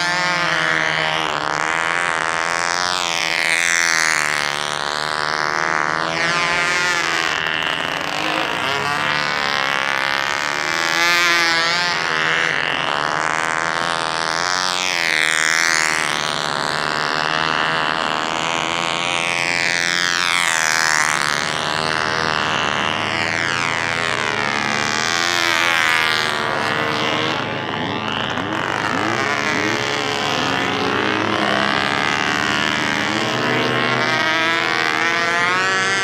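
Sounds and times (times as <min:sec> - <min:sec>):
model plane engine running: 0:00.0 - 0:36.0.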